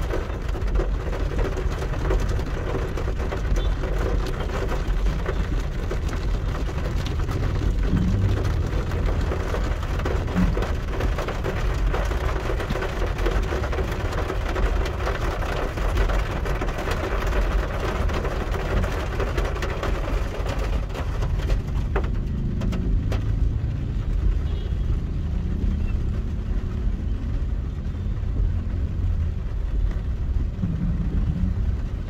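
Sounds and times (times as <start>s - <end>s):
car driving rumble: 0.0s - 32.0s
rain falling on a car: 0.0s - 32.0s.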